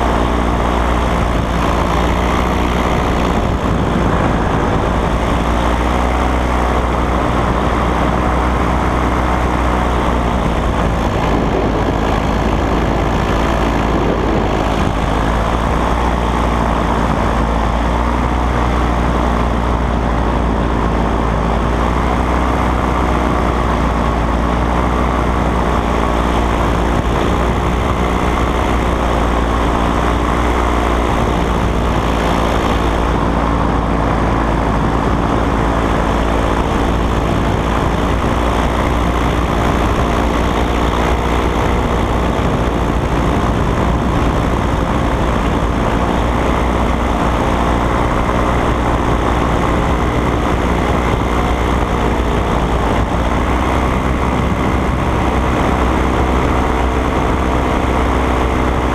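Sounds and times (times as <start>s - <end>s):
paramotor engine drone: 0.0s - 58.9s.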